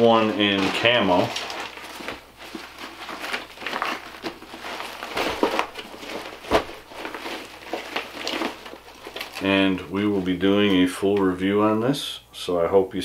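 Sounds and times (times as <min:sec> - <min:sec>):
stiff fabric rustling: 0:00.0 - 0:10.9.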